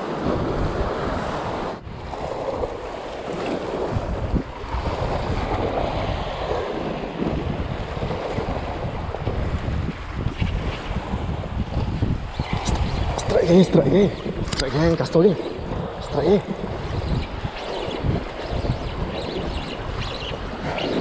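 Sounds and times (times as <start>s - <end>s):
sea waves around boat: 0.0s - 21.0s
wind buffeting microphone: 0.0s - 21.0s.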